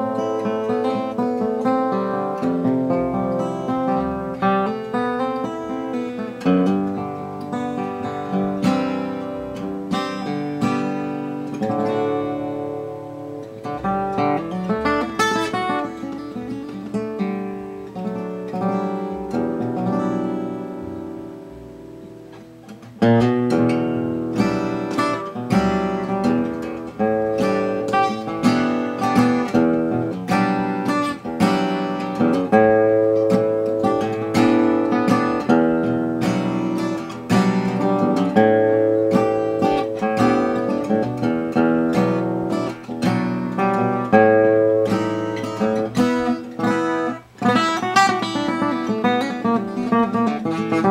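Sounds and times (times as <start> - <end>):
acoustic guitar playing: 0.0 - 50.9.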